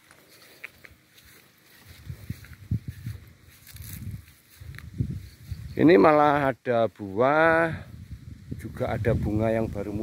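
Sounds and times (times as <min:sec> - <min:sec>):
faint outdoor background: 0:00.0 - 0:10.0.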